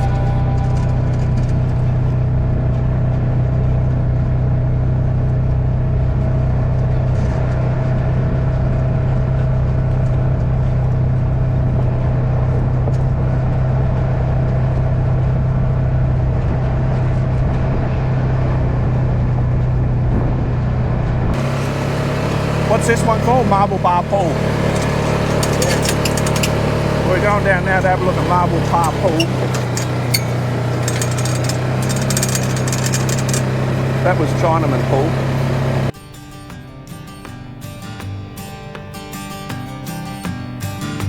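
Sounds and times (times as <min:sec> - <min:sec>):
vehicle engine droning: 0:00.0 - 0:36.0.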